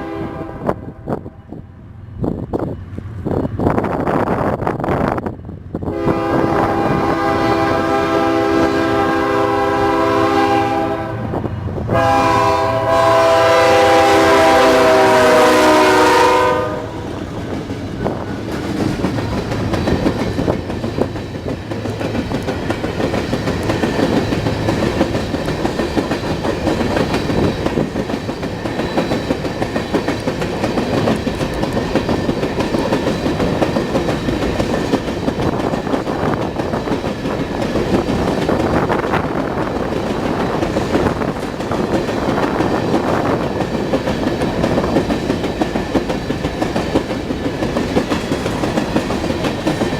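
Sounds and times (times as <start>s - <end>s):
train wheels clattering on rails: 2.2s - 49.9s.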